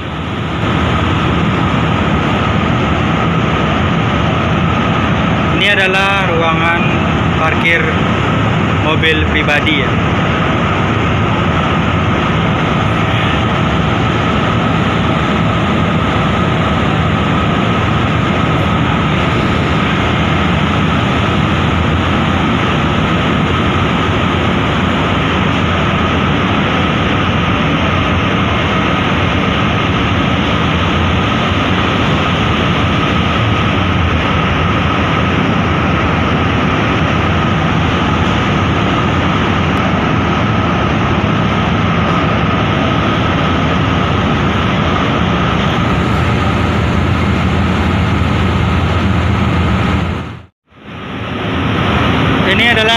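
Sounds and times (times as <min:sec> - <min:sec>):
ferry machinery rumbling: 0:00.0 - 0:52.9
thin steady whine: 0:00.0 - 0:52.9.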